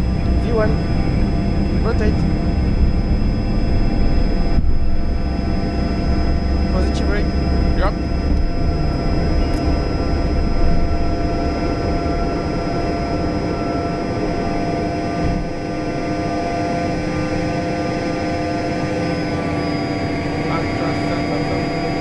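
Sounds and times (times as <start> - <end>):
jet engines droning in cabin: 0.0 - 22.0.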